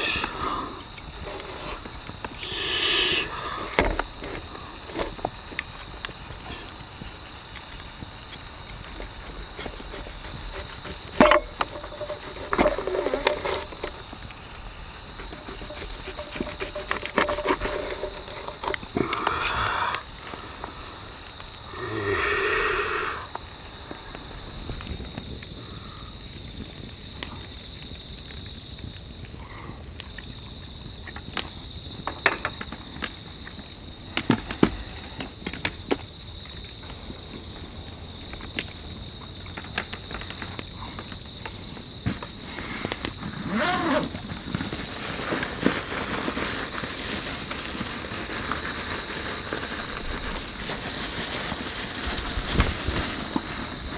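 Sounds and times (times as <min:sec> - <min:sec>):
night insects chirping: 0:00.0 - 0:53.9.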